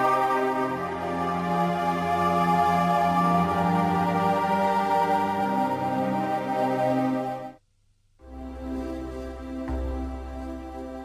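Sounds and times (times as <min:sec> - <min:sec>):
ambient synthesizer music: 0:00.0 - 0:07.6, 0:08.2 - 0:11.0.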